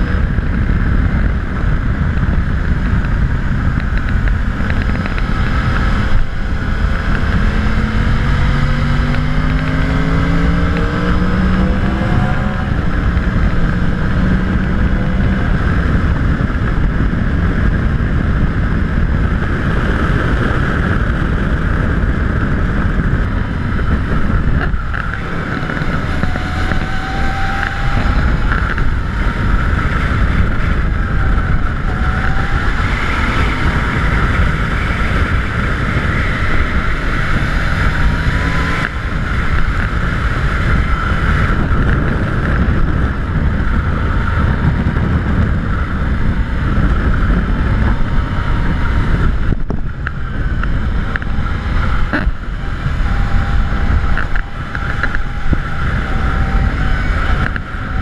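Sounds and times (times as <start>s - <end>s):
tone from moving bike: 0.0s - 58.0s
wind rushing over microphone: 0.0s - 58.0s.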